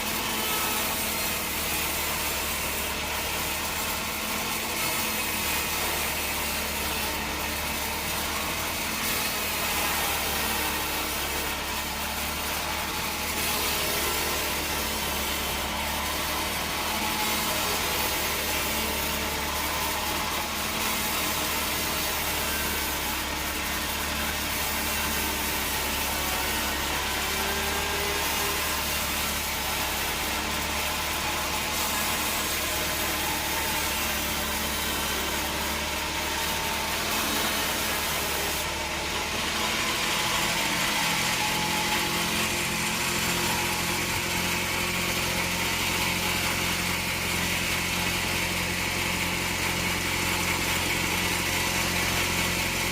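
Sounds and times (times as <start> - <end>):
bandsaw sawmill running: 0.0 - 52.9.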